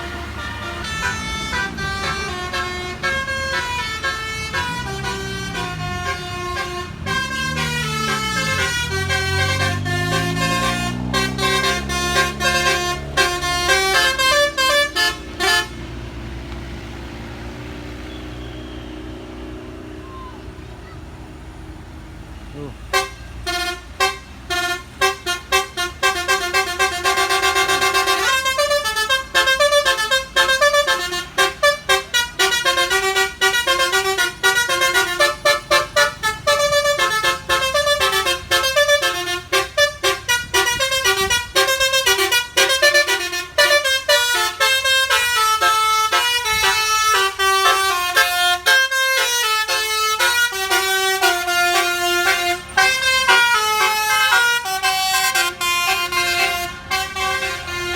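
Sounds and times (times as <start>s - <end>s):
musical air horn melody: 0.0s - 16.0s, 22.9s - 57.9s.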